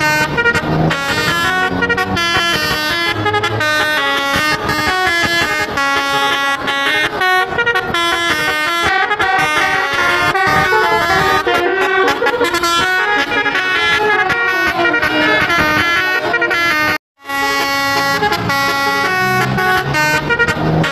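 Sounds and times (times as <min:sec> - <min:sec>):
musical bus air horns: 0:00.0 - 0:20.9.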